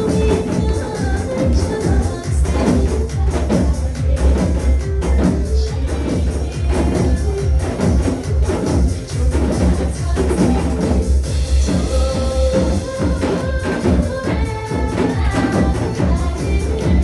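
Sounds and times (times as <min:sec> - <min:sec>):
hourglass drums struck rapidly: 0:00.0 - 0:17.0
trot music with heavy beat: 0:00.0 - 0:17.0.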